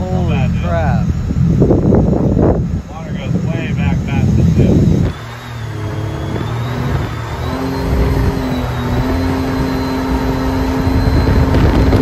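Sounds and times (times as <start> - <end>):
boat engine droning: 0.0 - 12.0
wind rushing: 0.0 - 12.0.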